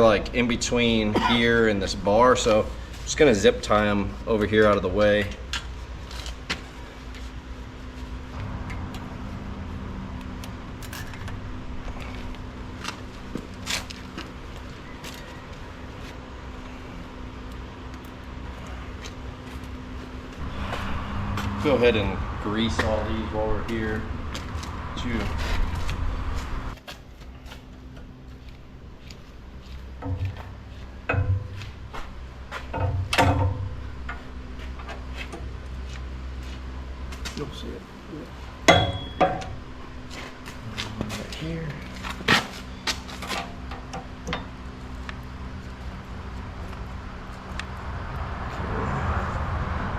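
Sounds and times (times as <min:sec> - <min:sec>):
engine hum: 0:00.0 - 0:49.9.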